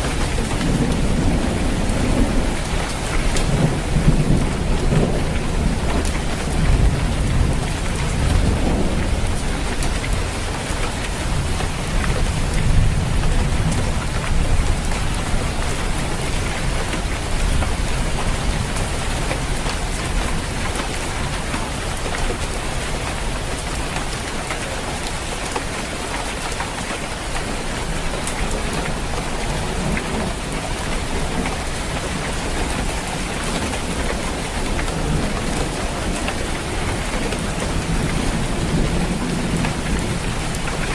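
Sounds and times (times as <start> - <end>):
low rumble of thunder: 0.0 - 25.0, 27.0 - 40.9
rain pattering on a roof: 0.0 - 40.9.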